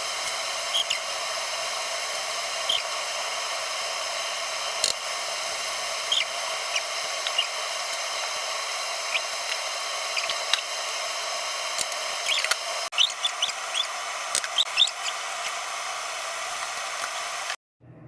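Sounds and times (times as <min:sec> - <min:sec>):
high squeaks and ticks from stirring: 0:00.0 - 0:17.6.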